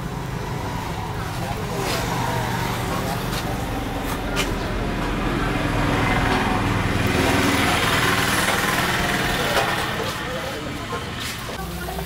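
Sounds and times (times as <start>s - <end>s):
highway traffic: 0.0s - 12.0s
small vehicle engine running: 0.0s - 12.0s.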